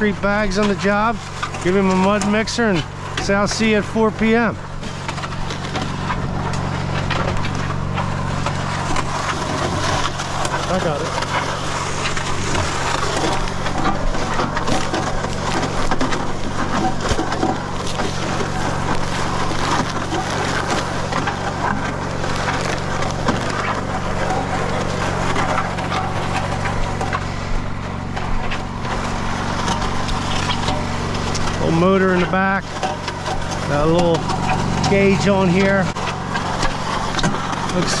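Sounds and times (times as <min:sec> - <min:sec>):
concrete mixer motor running: 0:00.0 - 0:38.0
gritty crackle of churning concrete: 0:00.0 - 0:38.0.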